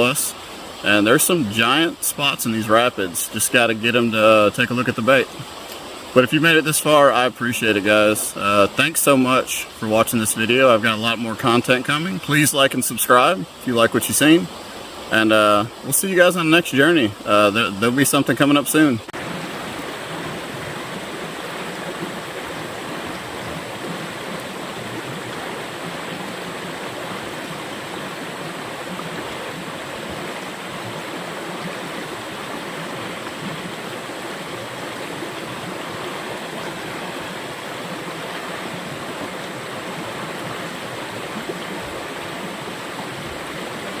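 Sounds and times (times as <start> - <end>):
creek rushing over rocks: 0.0 - 44.0.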